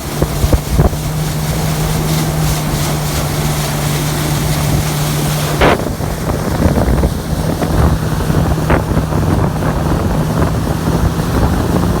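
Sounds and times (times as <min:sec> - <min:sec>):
jet ski engine humming: 0:00.0 - 0:12.0
wind buffeting microphone: 0:00.0 - 0:12.0.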